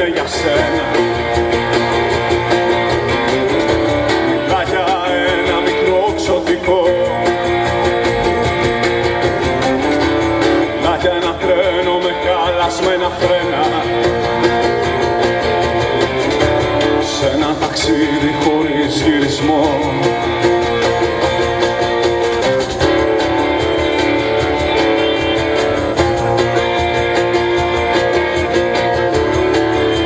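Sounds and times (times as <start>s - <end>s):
acoustic guitar strumming: 0.0s - 30.0s
drums keeping a steady beat: 0.0s - 30.0s
electric guitar: 0.0s - 30.0s.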